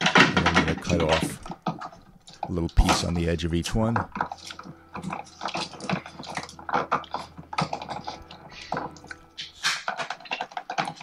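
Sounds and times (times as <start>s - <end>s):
electrical cable clicking and crackling: 0.0s - 11.0s.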